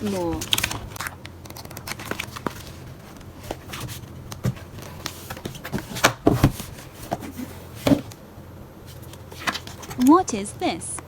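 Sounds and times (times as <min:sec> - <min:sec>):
hands handling packaging: 0:00.0 - 0:08.2, 0:08.8 - 0:10.2.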